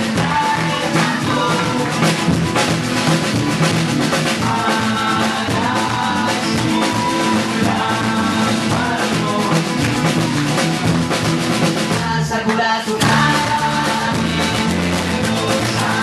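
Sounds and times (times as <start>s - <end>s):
person singing: 0.0s - 2.7s, 4.2s - 10.9s, 11.8s - 16.0s
drum kit: 0.0s - 16.0s
live band playing: 0.0s - 16.0s.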